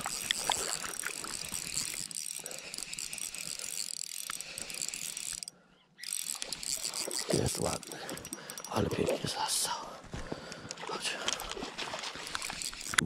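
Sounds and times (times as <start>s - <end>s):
fishing reel ratcheting: 0.0s - 9.4s, 10.5s - 13.0s.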